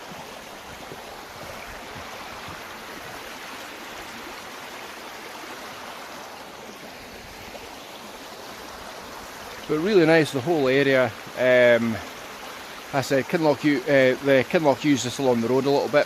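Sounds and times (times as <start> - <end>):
stream splashing over rocks: 0.0 - 16.0.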